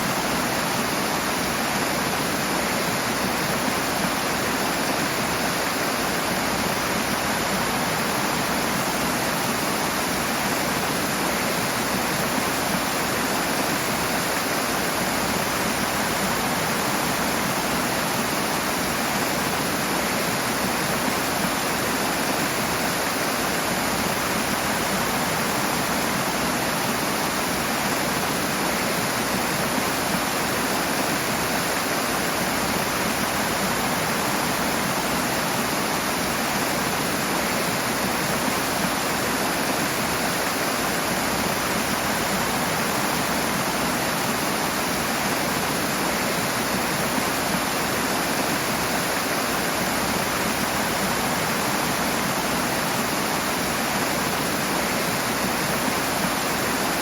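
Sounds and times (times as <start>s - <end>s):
rushing water roar: 0.0s - 57.0s.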